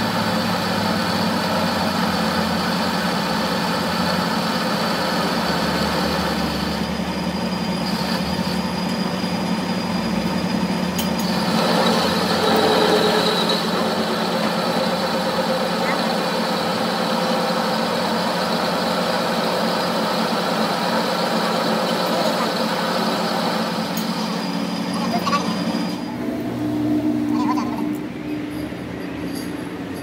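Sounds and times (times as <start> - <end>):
metal lathe drone and whine: 0.0 - 29.9.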